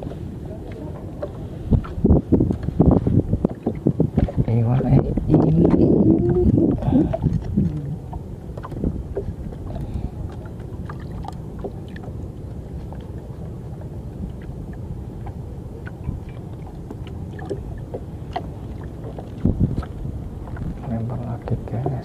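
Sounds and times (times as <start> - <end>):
water against canoe hull: 0.0 - 22.0
wind on microphone: 0.0 - 22.0.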